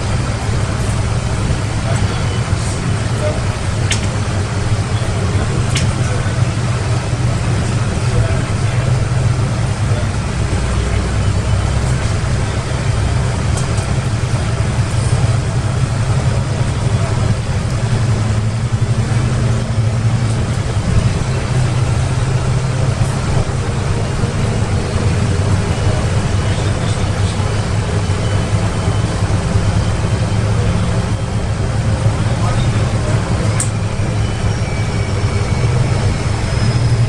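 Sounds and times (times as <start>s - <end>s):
bus engine drone: 0.0s - 37.0s
road and body noise: 0.0s - 37.0s.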